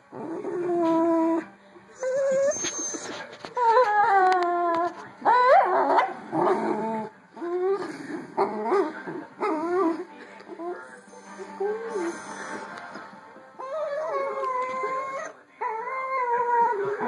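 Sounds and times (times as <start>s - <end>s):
dogs whining: 0.1s - 12.7s, 13.6s - 17.0s.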